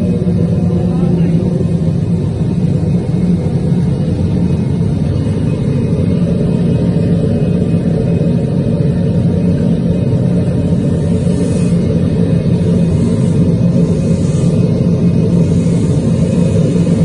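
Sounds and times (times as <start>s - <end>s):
hydraulic motor and pump humming: 0.0s - 17.0s.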